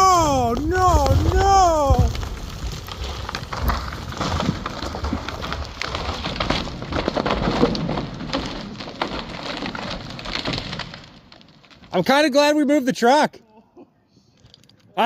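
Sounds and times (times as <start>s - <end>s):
branches snapping and wood cracking: 0.0s - 12.2s
falling debris: 0.0s - 12.4s
tree crashing down: 0.0s - 12.5s.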